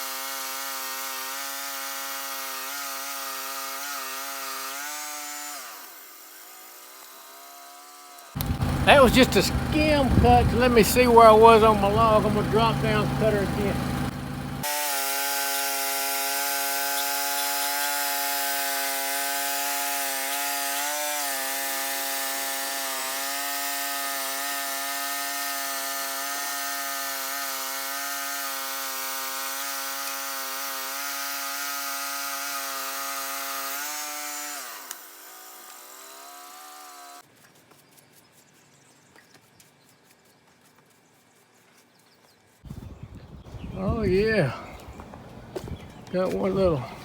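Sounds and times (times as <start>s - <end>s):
sawmill motor running: 0.0s - 37.2s, 43.8s - 47.0s.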